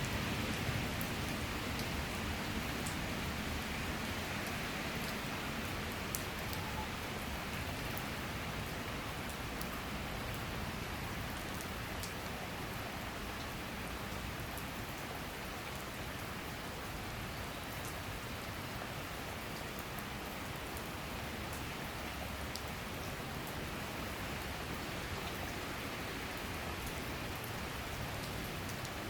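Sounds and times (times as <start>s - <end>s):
heavy rain pouring: 0.0s - 29.0s
raindrops landing on surfaces: 0.0s - 29.0s.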